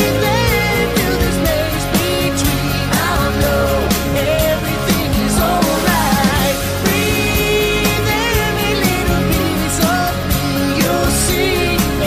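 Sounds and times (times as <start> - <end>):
melodic rock song with singing: 0.0 - 12.0.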